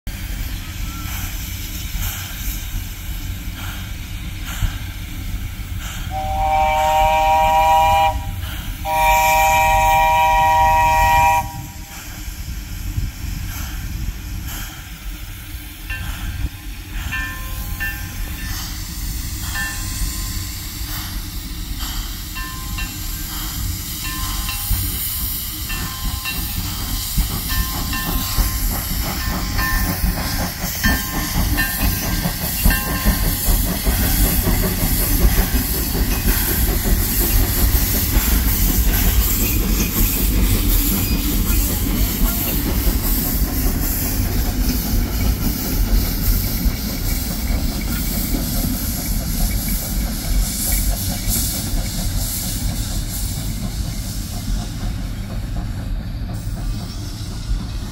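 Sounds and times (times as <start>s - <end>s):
steam hissing: 0.1s - 57.9s
train wheels clacking on rails: 0.1s - 57.9s.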